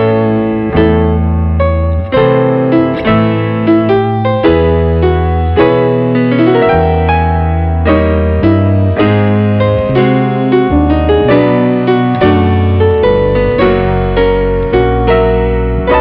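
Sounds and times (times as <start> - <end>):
held bass notes: 0.0 - 16.0
keyboard striking chords: 0.0 - 16.0.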